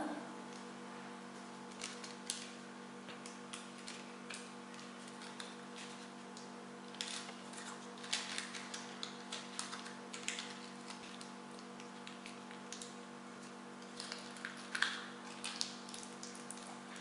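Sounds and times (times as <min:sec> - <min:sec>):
paper crinkling and rustling: 0:01.7 - 0:17.0.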